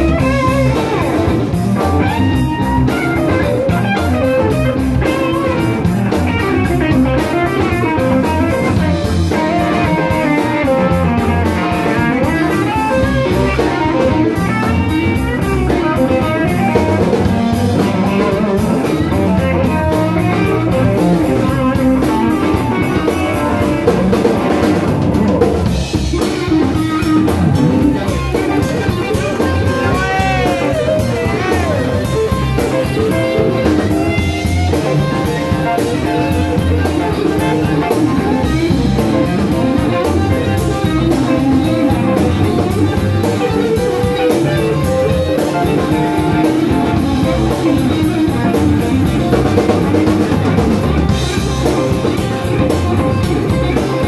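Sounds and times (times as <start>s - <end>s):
lead guitar bending notes: 0.0s - 54.0s
live blues band playing: 0.0s - 54.0s.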